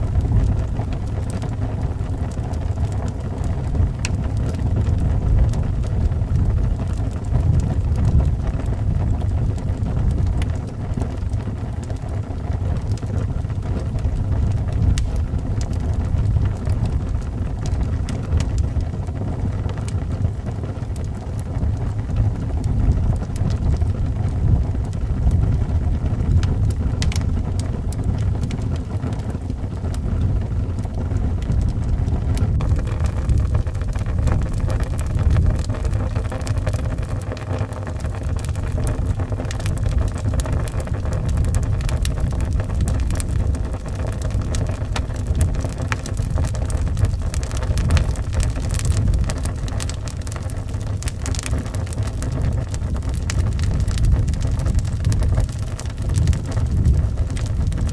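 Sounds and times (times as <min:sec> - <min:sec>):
howling wind: 0:00.0 - 0:57.9
wood fire crackling and popping: 0:00.0 - 0:57.9.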